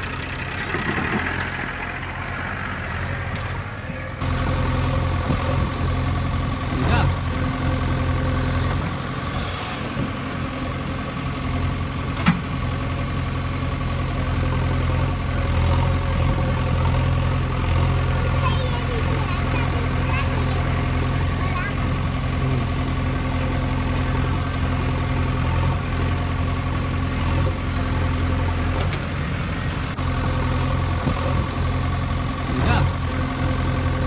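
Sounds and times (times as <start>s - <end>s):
tractor engines running: 0.0s - 34.0s.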